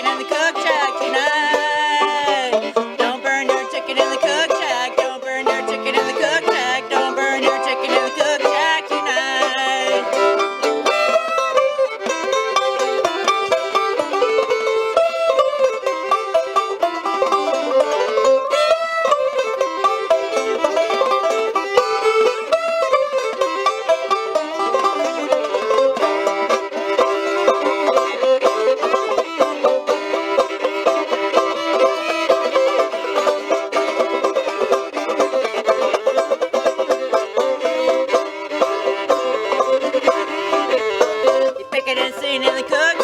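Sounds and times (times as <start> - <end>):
acoustic bluegrass string music: 0.0 - 43.0.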